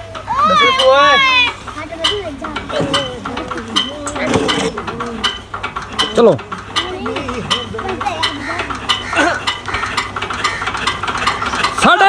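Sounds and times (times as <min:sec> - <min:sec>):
diesel engine cranking and clicking: 0:00.0 - 0:12.0
men shouting: 0:00.3 - 0:01.7, 0:02.4 - 0:10.9.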